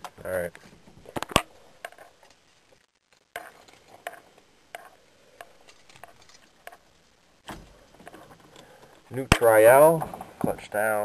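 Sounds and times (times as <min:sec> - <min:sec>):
faint clicks and knocks of handling: 0:00.0 - 0:09.4.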